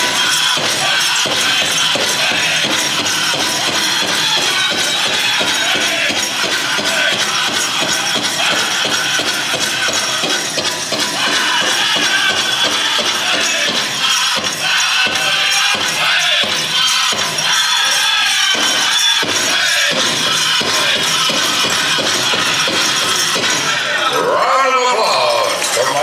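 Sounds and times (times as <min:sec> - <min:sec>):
steady drumbeat: 0:00.0 - 0:24.2
metallic jingling: 0:00.0 - 0:26.0.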